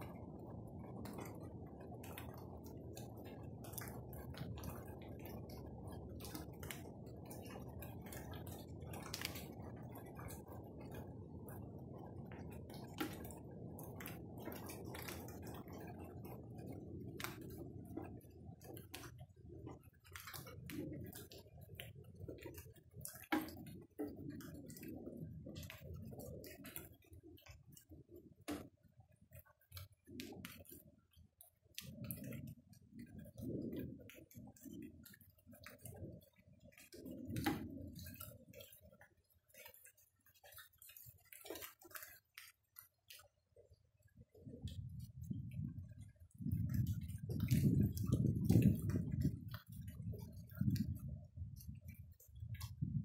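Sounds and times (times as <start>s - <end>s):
rain drops tapping: 0.0s - 53.0s.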